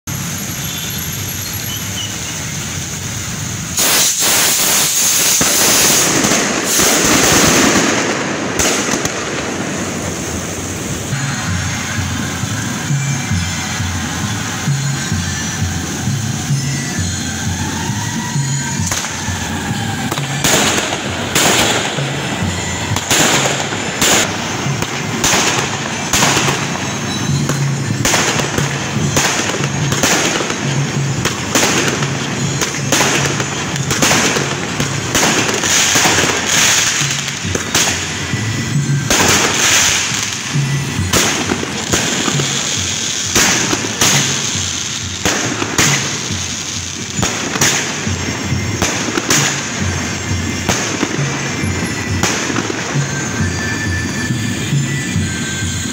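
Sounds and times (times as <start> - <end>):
fireworks bangs and crackles: 0.0 - 55.9
steady hiss: 0.1 - 17.7, 18.4 - 55.9.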